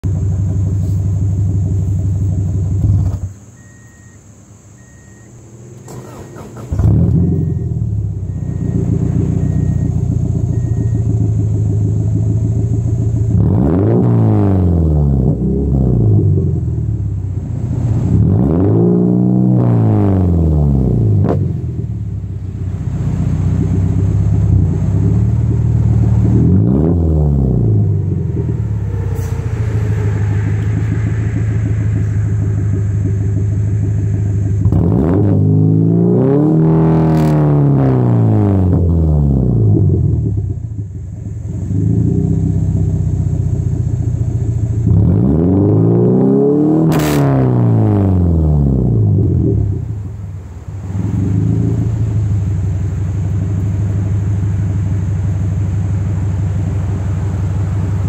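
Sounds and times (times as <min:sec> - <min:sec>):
car exhaust idling and revving: 0:00.0 - 0:58.0.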